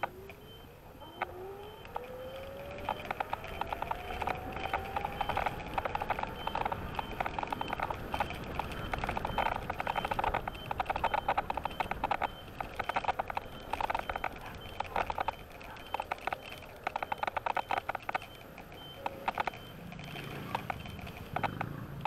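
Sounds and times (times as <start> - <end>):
scooter rattling over bumps: 0.0 - 22.0
wind and tyres rumbling: 0.0 - 22.0.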